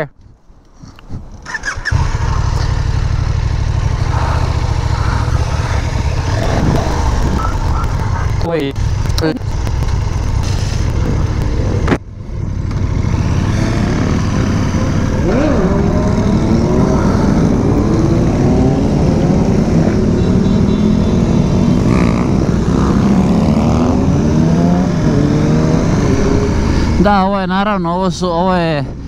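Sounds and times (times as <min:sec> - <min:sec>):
motorcycle engine revving: 0:01.4 - 0:27.8.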